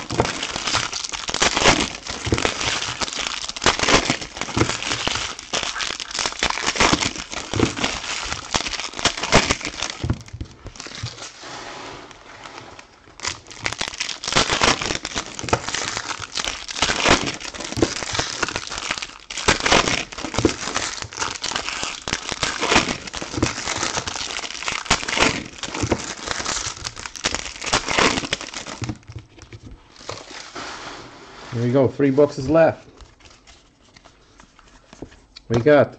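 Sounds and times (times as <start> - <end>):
foil wrappers crinkling: 0.0 - 11.4, 12.1 - 30.6, 32.4 - 35.8.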